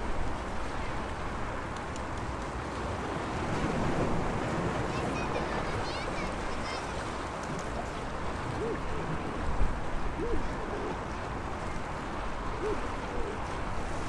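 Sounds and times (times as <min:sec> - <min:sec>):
small waves washing on shore: 0:00.0 - 0:14.0
water splashes: 0:00.0 - 0:14.0.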